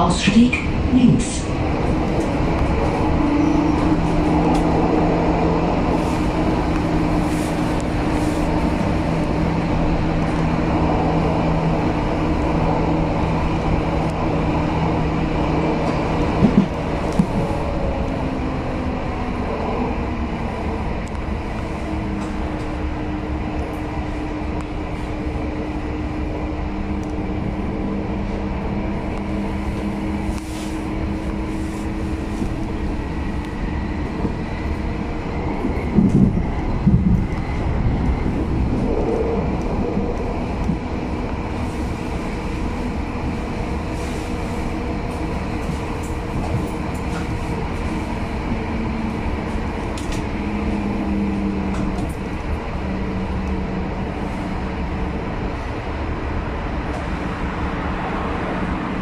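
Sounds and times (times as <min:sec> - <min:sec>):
rumble of train wheels: 0:00.0 - 0:59.0.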